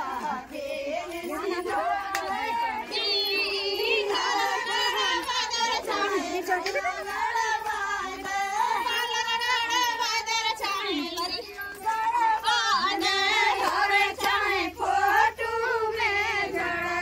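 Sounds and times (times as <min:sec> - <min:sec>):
high voices singing together: 0:00.0 - 0:17.0.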